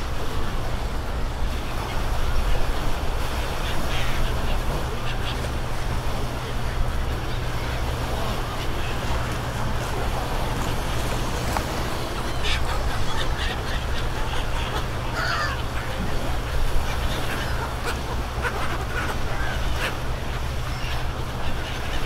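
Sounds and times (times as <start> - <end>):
crowd chatter: 0.3 - 22.0
seagulls calling: 1.5 - 22.0.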